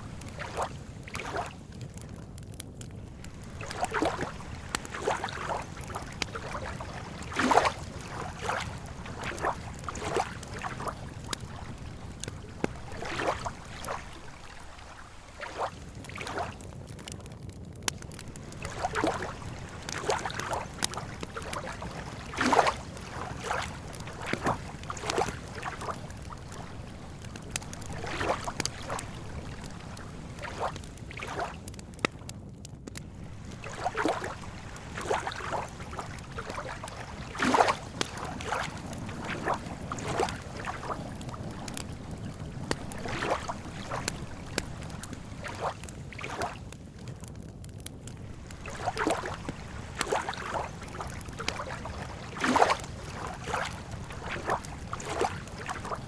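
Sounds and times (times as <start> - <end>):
small waves lapping at shore: 0.0 - 17.2, 17.9 - 32.3, 33.0 - 47.4, 48.1 - 56.0
campfire crackle: 0.0 - 56.0.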